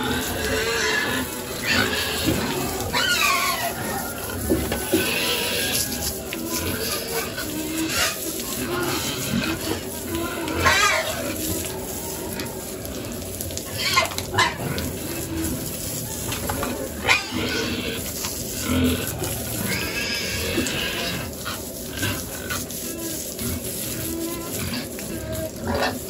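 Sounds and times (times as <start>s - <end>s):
hose spraying water: 0.0s - 26.0s
young pigs grunting and squealing: 0.0s - 26.0s.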